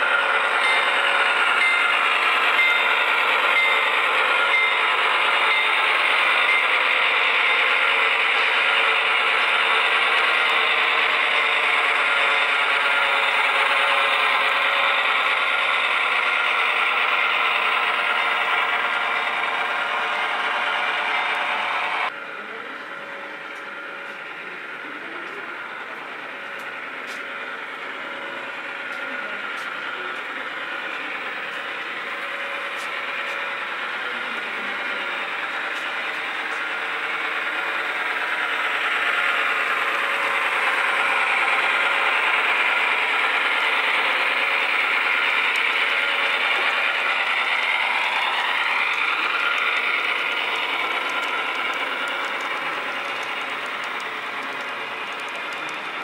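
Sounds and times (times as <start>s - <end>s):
model train wheels rattling on rail: 0.0s - 22.1s, 23.5s - 56.0s.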